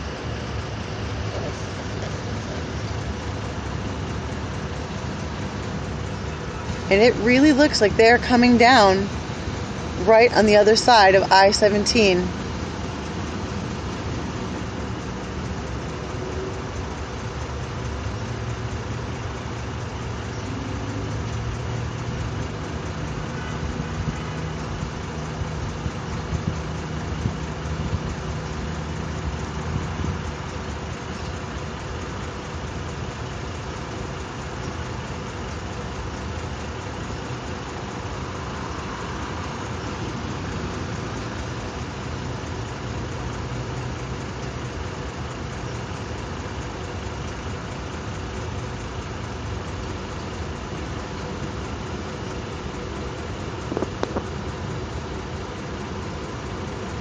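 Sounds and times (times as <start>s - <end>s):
freeway traffic noise: 0.0s - 57.0s
low engine hum: 0.0s - 57.0s.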